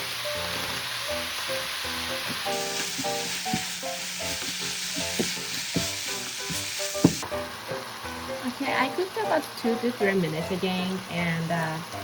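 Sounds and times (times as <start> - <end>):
meat and vegetables sizzling in pan: 0.0 - 12.0.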